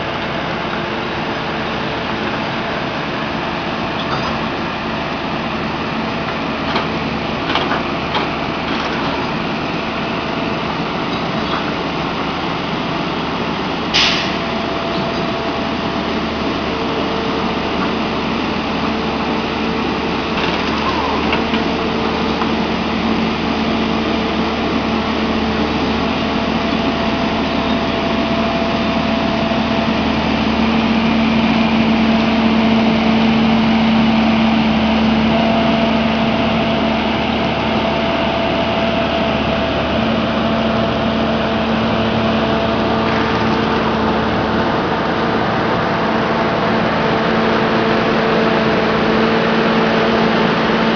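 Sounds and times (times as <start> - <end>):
train engine and hydraulics humming: 0.0 - 50.9.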